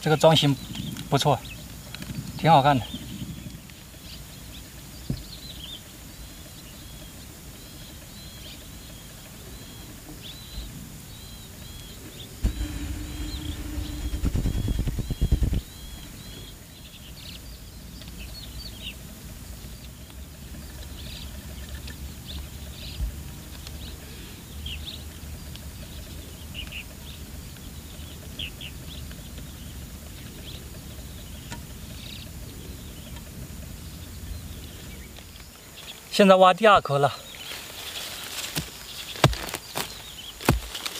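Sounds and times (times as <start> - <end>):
small birds chirping: 0.0 - 14.0, 14.6 - 40.9
low outdoor rumble: 0.6 - 36.2.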